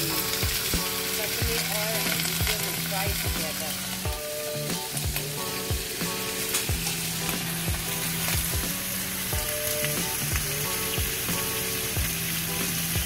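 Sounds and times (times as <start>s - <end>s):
background music: 0.0s - 13.0s
chicken sizzling in oil: 0.0s - 13.0s.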